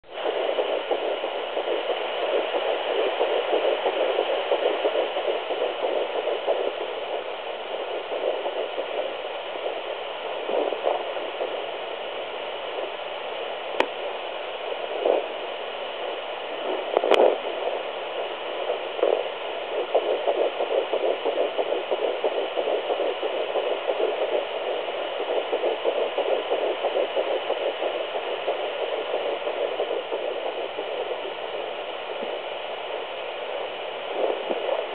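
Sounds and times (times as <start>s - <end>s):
whooshing fetal heartbeat pulse: 0.0s - 34.9s.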